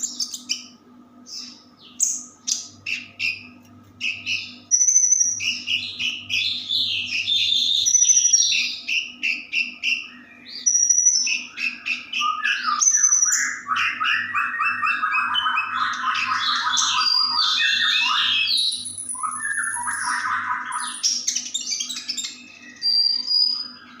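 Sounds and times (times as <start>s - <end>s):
songbird whistling and trilling: 0.0s - 24.0s.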